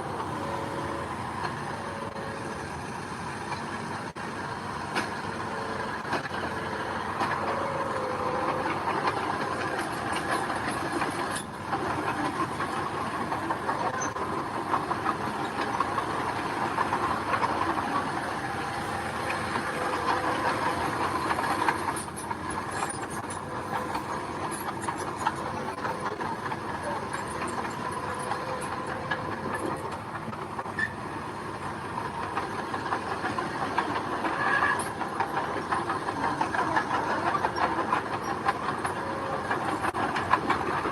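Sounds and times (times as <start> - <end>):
diesel engine under load: 0.0 - 40.9
tracks clanking: 0.0 - 40.9.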